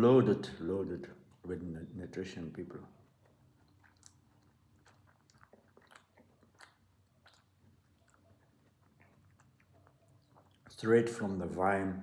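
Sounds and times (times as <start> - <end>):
faint chewing: 0.4 - 11.6.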